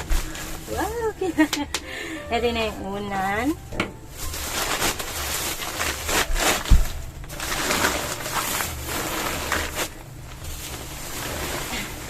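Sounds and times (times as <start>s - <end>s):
packaging rustling and crinkling: 0.0s - 1.8s, 2.5s - 12.0s.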